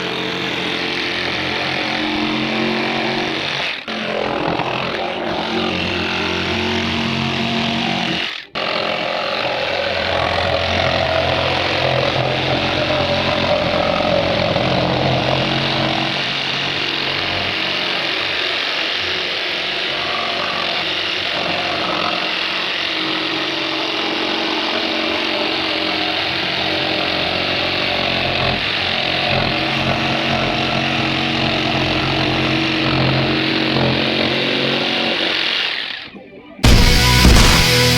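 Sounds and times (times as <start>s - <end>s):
jigsaw running: 0.0s - 37.9s.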